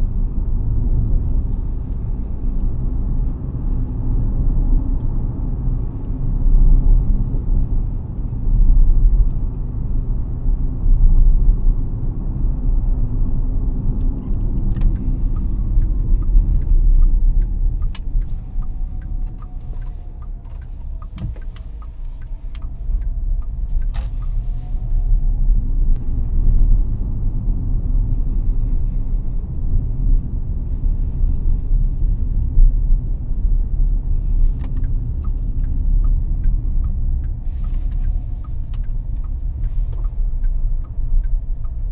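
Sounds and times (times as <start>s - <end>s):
car road and drivetrain rumble: 0.0s - 41.9s.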